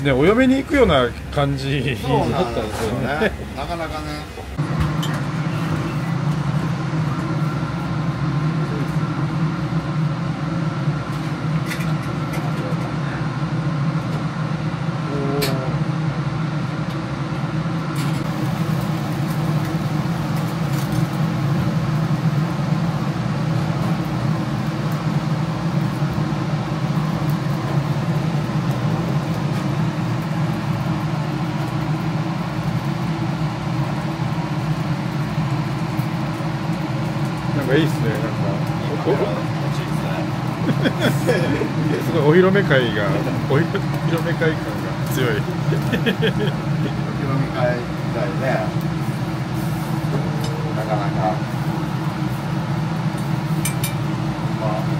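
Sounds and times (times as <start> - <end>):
extractor hood fan drone: 0.0 - 54.9.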